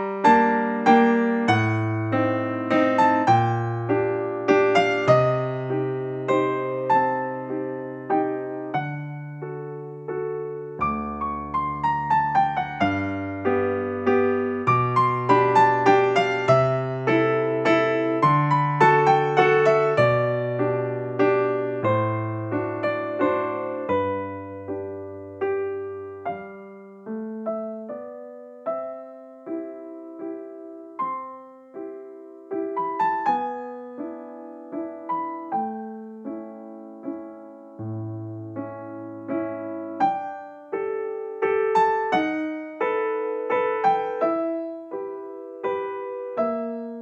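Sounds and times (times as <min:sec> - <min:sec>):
slow piano melody: 0:00.0 - 0:47.0.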